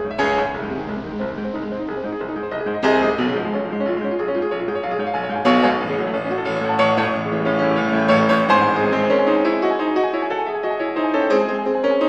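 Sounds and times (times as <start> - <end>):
piano background music: 0.0 - 12.0.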